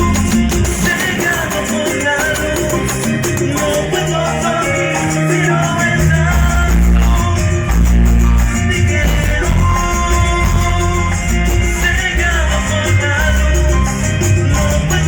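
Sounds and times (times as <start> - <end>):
cumbia music with bass line: 0.0 - 15.0.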